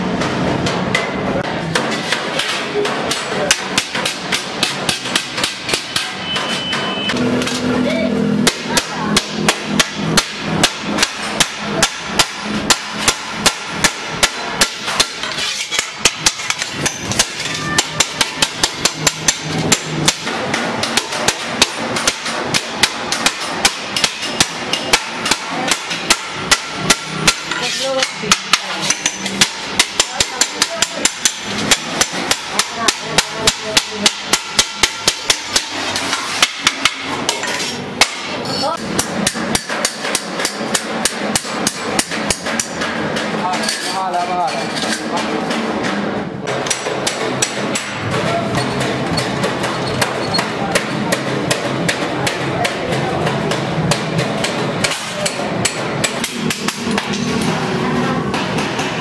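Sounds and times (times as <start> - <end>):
hammer striking steel sheet: 0.0 - 59.0.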